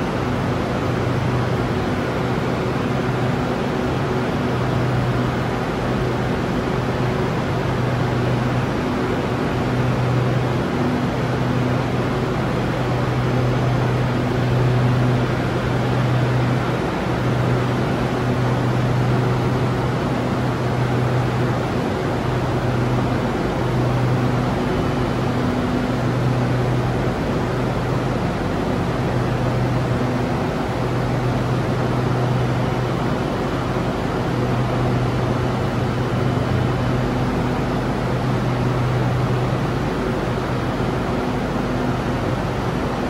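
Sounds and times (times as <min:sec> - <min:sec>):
train air conditioning hum: 0:00.0 - 0:43.0.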